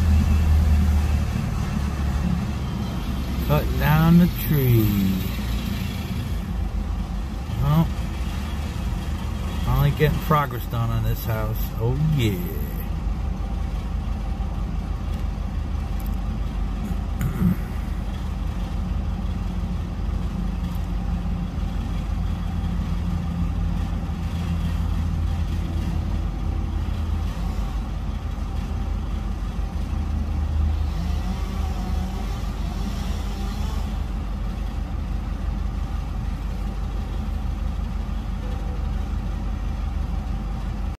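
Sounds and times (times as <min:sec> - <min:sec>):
motor vehicle engine rumble: 0:00.0 - 0:40.9.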